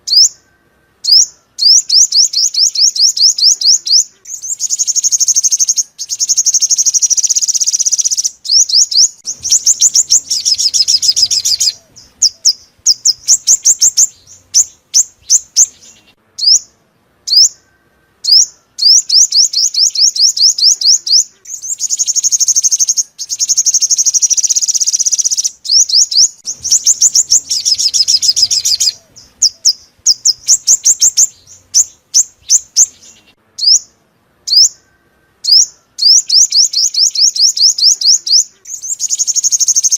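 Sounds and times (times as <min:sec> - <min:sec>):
sunbird song trills: 0:00.0 - 0:39.9.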